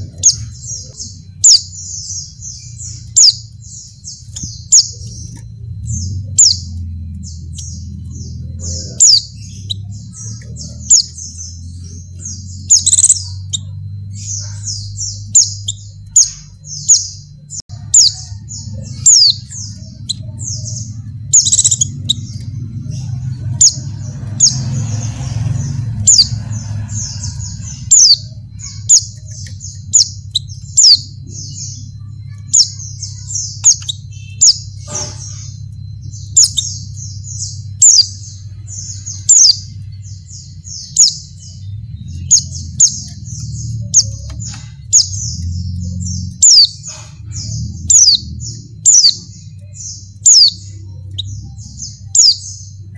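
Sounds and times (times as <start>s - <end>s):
birds chirping rapidly: 0.0s - 52.9s
steady low hum: 0.0s - 52.9s.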